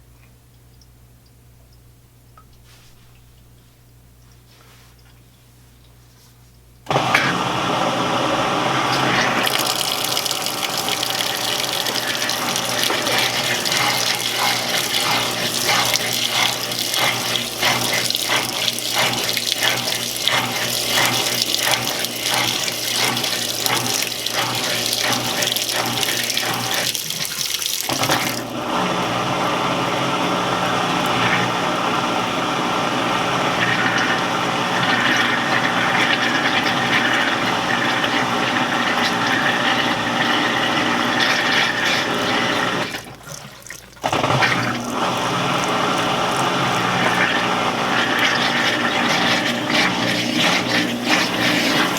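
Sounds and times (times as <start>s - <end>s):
washing machine motor humming: 6.8s - 51.9s
water spraying into tub: 8.5s - 51.9s.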